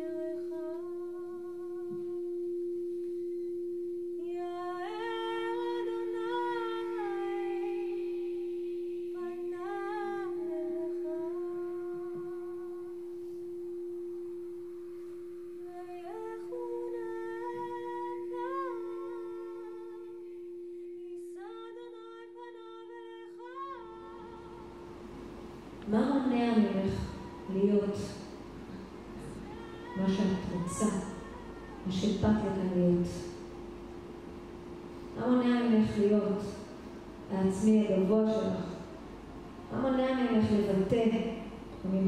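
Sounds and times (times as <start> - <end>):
humming drone note: 0.0 - 42.0.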